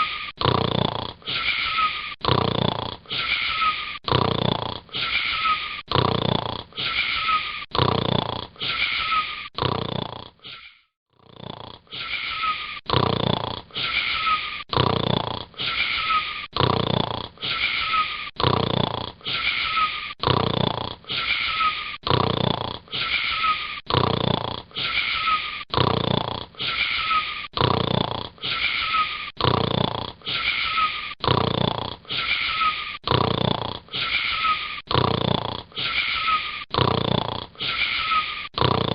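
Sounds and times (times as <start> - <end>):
boy snoring with whistle: 0.0 - 38.9.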